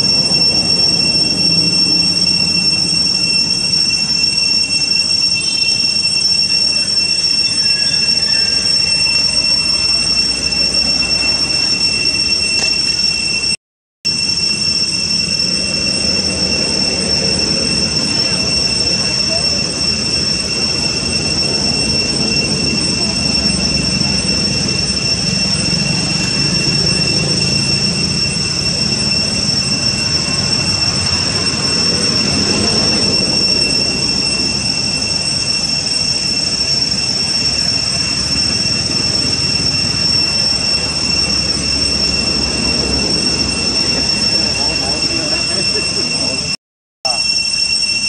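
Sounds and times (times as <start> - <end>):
cicadas droning: 0.0 - 13.5, 14.1 - 48.0.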